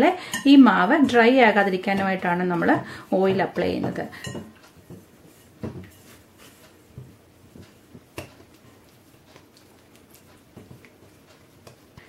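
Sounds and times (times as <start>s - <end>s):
hands squishing dough: 1.1s - 12.0s.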